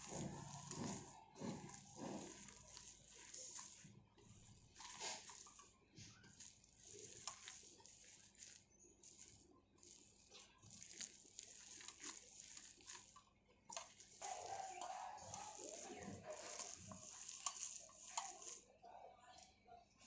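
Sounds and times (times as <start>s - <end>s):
hand squishing wet food: 0.0s - 20.0s.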